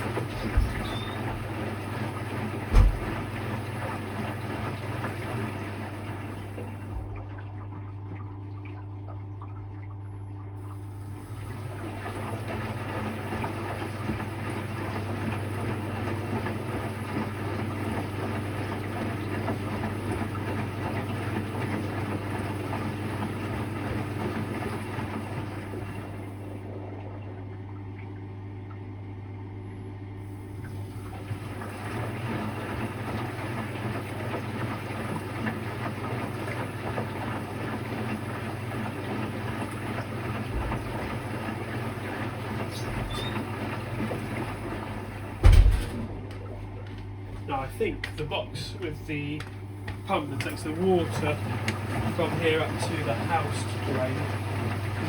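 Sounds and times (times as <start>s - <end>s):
washing machine hum: 0.0s - 55.0s.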